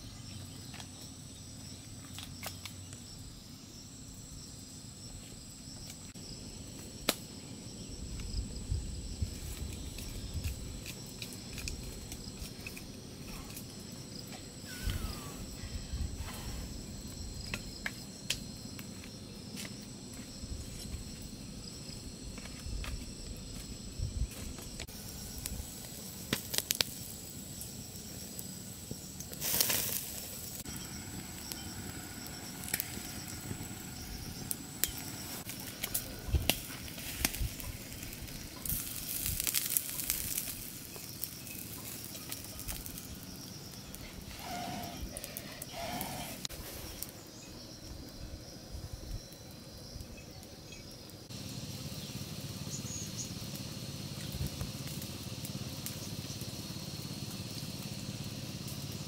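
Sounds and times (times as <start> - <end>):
insects shrilling: 0.0 - 59.0.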